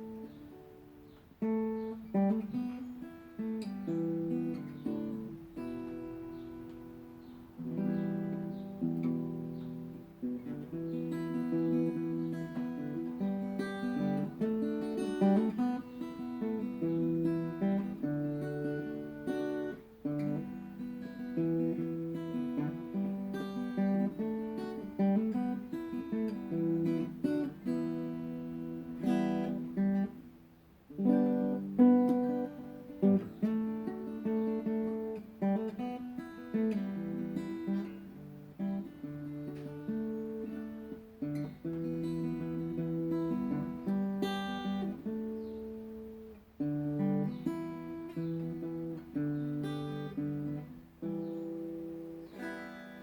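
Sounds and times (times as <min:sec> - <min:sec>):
acoustic guitar strumming chords: 0:00.0 - 0:53.0.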